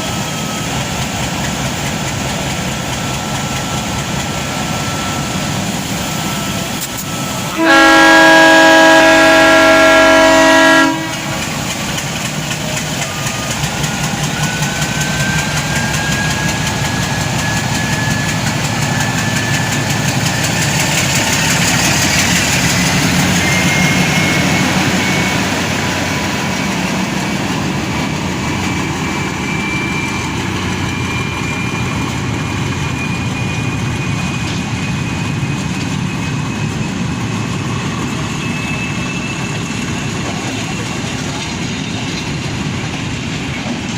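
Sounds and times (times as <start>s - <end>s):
diesel locomotive engine running: 0.0s - 43.9s.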